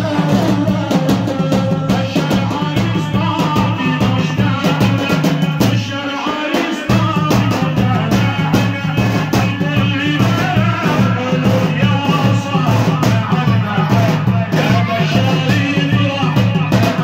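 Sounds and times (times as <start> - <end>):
chanted singing: 0.0 - 17.0
fast steady drum beat: 0.0 - 17.0.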